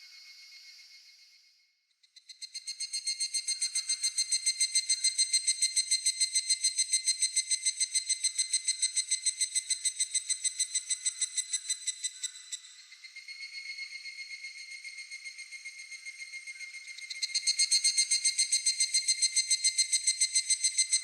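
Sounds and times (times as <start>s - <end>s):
cicada pulsed trill: 2.1s - 21.0s.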